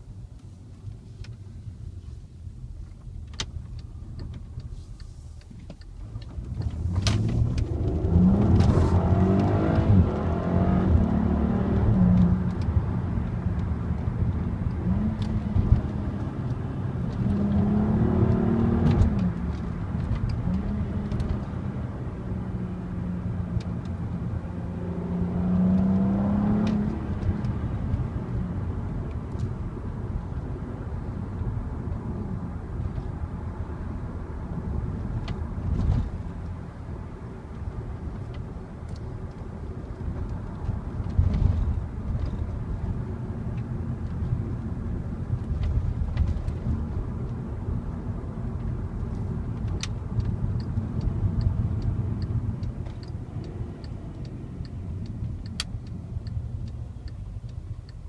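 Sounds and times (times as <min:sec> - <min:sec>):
car engine accelerating: 0:06.1 - 0:58.0.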